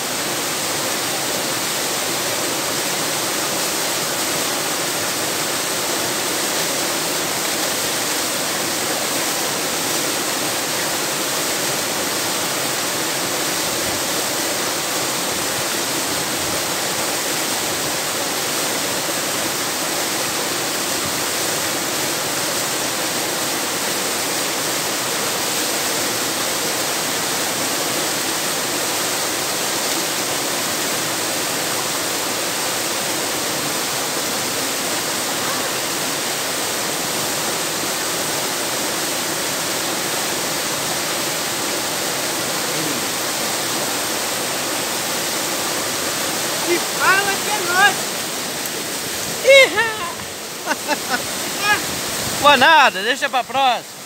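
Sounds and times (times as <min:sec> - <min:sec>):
waterfall crashing into pool: 0:00.0 - 0:54.0.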